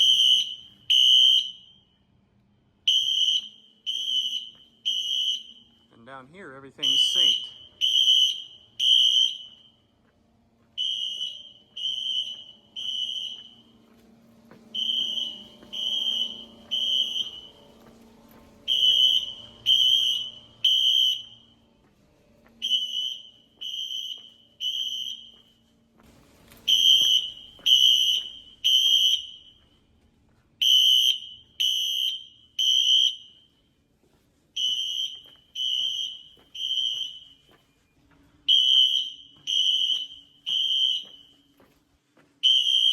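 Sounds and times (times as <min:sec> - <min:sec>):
fire alarm horns blasting: 0:00.0 - 0:41.8, 0:42.4 - 0:42.9.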